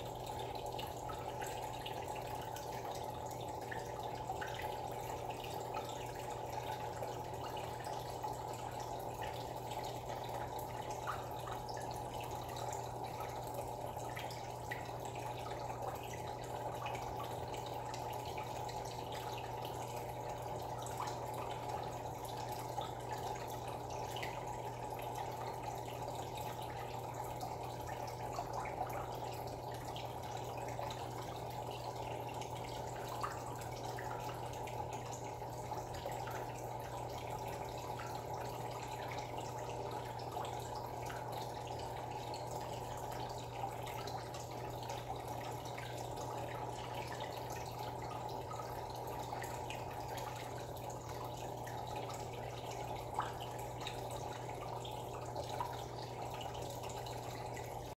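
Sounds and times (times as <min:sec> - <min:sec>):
faint drips: 0:00.0 - 0:58.0
water trickling and bubbling: 0:00.0 - 0:58.0.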